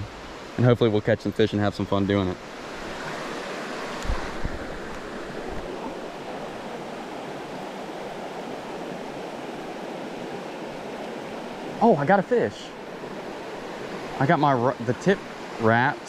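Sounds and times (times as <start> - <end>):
stream rushing over rocks: 2.3 - 16.0.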